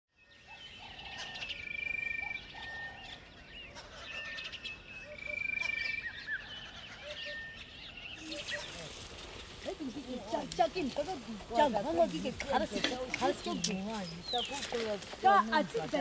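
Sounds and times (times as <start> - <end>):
birds calling and chirping: 0.1 - 16.0.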